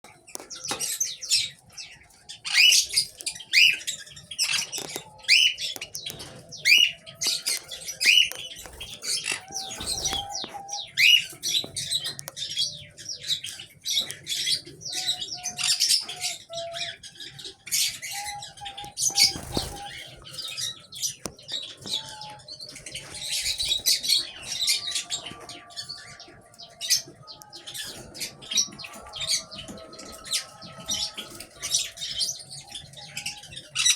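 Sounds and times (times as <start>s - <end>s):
sparrows chirping: 0.0s - 33.9s.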